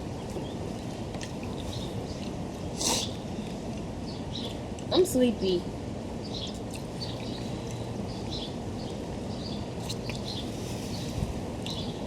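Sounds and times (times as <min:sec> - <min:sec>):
small birds chirping: 0:00.0 - 0:05.6, 0:06.2 - 0:12.0
low background rumble: 0:00.0 - 0:12.0.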